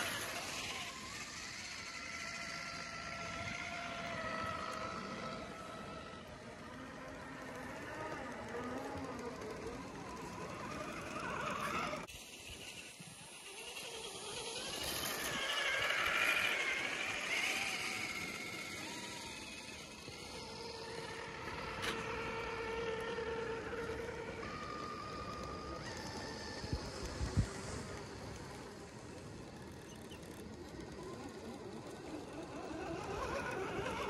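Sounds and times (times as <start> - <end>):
toy truck motors whining: 0.0 - 34.0.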